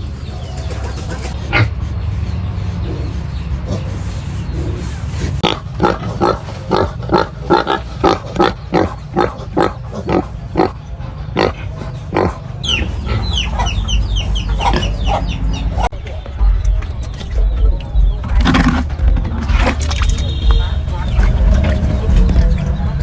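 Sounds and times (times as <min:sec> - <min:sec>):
pigs grunting: 0:00.0 - 0:23.0
steady low rumble: 0:00.0 - 0:23.0.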